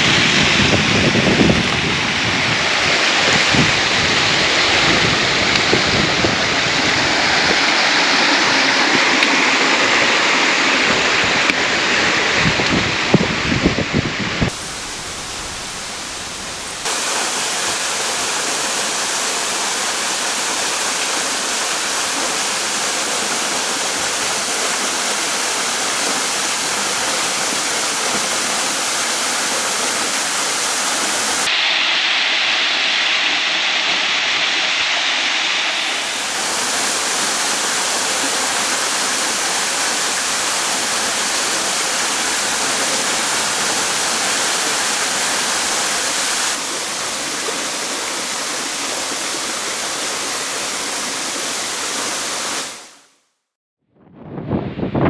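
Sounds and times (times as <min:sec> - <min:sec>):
waterfall rushing: 0:00.0 - 0:13.1, 0:14.5 - 0:53.1.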